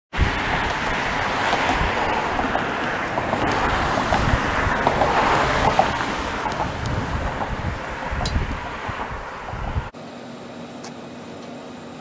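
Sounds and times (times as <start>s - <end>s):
wind buffeting microphone: 0.1s - 10.0s.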